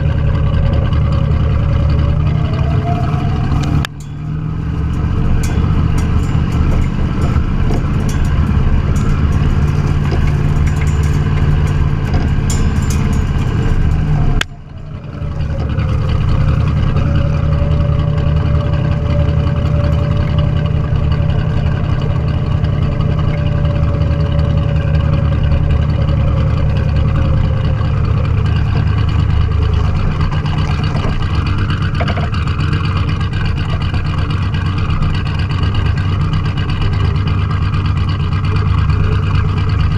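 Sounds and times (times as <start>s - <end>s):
car engine running hard: 0.0s - 39.9s.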